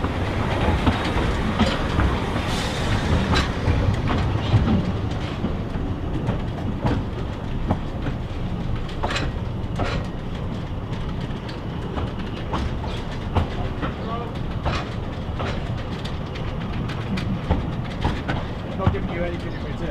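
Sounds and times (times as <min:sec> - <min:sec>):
train rumbling along track: 0:00.0 - 0:19.9
wheels clicking over rail joints: 0:00.0 - 0:19.9.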